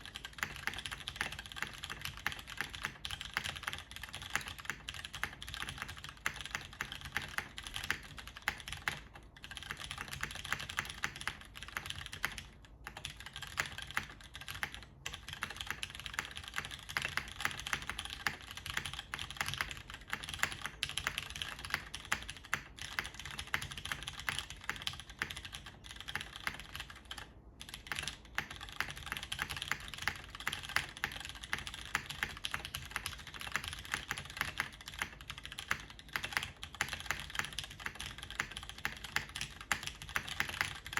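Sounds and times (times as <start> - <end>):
typing on mechanical keyboard: 0.0 - 40.9.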